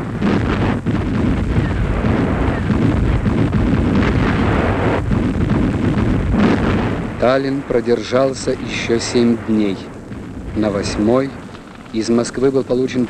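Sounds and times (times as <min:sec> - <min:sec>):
explosions: 0:00.0 - 0:13.0
heavy gunfire: 0:00.0 - 0:13.0.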